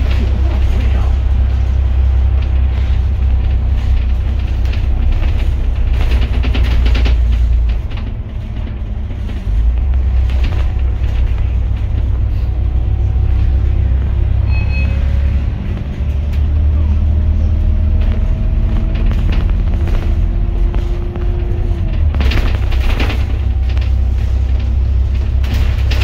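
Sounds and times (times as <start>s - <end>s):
bus cabin engine rumble: 0.0s - 26.0s
rattling: 0.0s - 26.0s.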